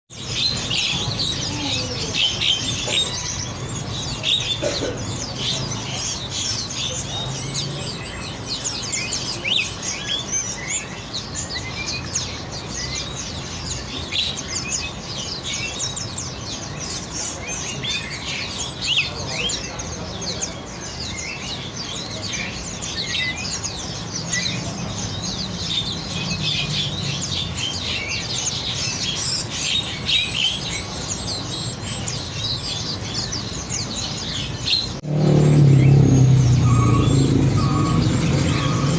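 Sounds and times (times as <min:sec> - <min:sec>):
songbirds chirping and singing: 0:00.1 - 0:38.9.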